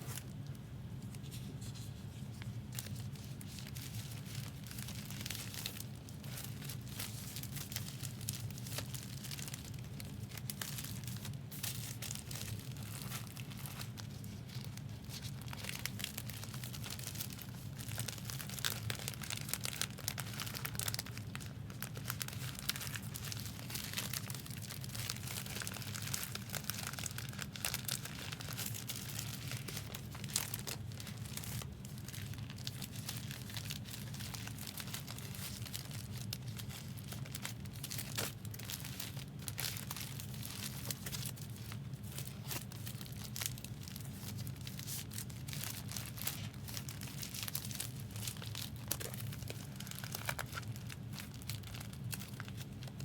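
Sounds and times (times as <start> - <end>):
foil wrappers crinkling and tearing: 0.0 - 53.0.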